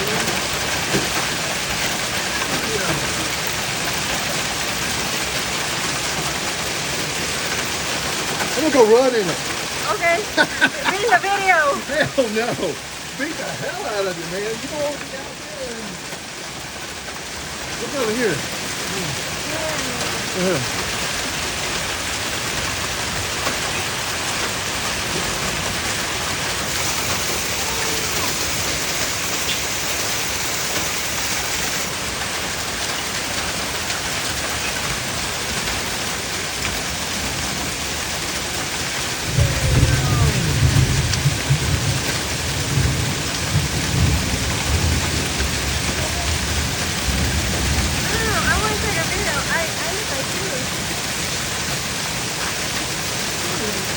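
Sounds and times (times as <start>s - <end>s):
hail and heavy rain: 0.0s - 53.9s.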